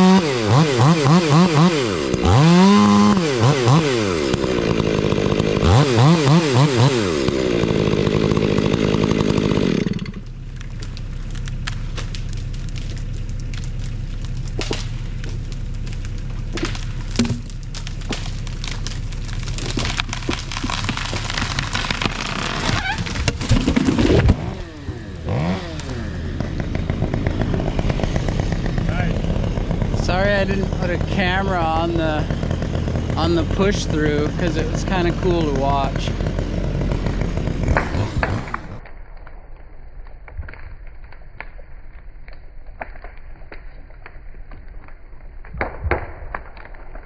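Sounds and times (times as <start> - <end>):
chainsaw revving and idling: 0.0 - 38.8.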